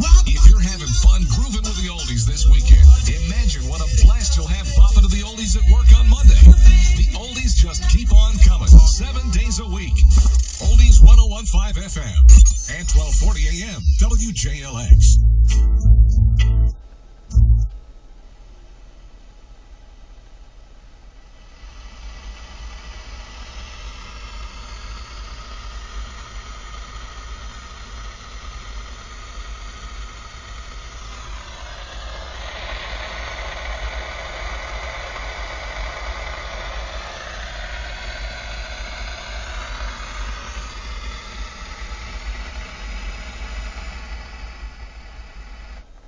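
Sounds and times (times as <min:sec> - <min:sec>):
radio static hiss: 0:00.0 - 0:15.6, 0:16.8 - 0:46.0
car engine idling: 0:00.0 - 0:46.0.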